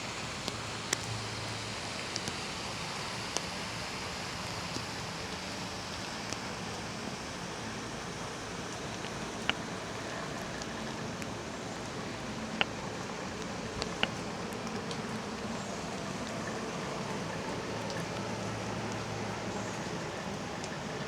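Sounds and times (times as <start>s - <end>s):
steady rain hissing: 0.0s - 21.0s.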